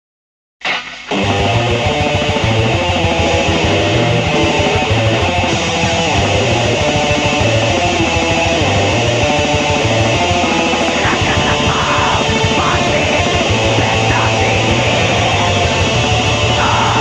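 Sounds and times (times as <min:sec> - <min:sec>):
distorted electric guitars: 0:00.6 - 0:17.0
bass figure: 0:00.8 - 0:17.0.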